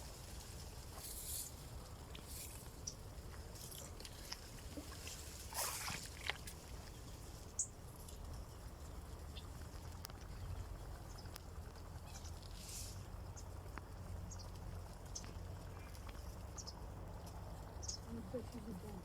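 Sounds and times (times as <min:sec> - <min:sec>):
faint rustles and clicks: 0:00.0 - 0:19.0.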